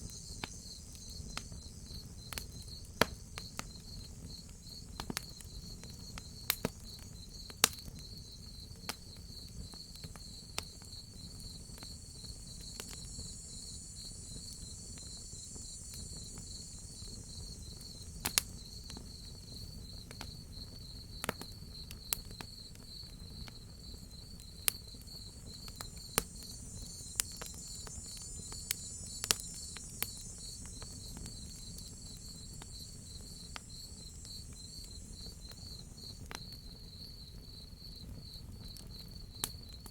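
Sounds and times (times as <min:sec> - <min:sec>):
wood fire crackling: 0:00.0 - 0:37.0
crickets chirping: 0:00.0 - 0:39.9
faint insect hiss: 0:00.0 - 0:39.9.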